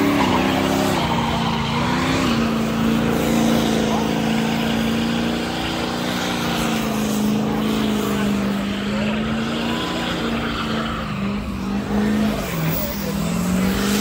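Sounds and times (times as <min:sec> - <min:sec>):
spinning tyres hissing: 0:00.0 - 0:14.0
truck engine at high revs: 0:00.0 - 0:14.0.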